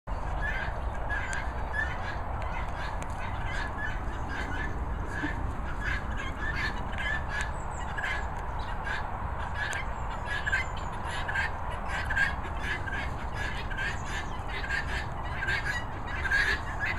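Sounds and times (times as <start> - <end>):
peafowl honking calls: 0.1 - 16.9.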